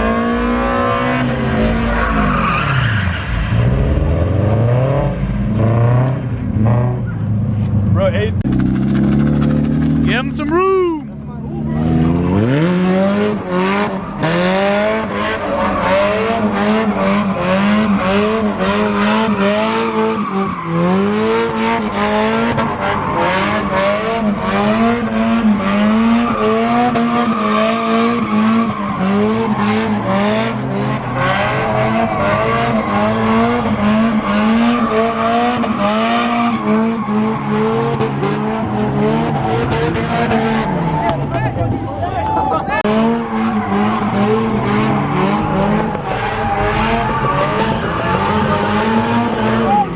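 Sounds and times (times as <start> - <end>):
car engine revving: 0.0 - 49.9
tires squealing: 0.0 - 49.9.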